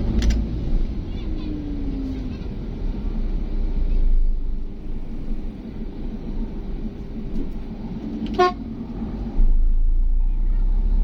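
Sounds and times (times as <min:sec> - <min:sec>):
road vehicle rumble: 0:00.0 - 0:11.0.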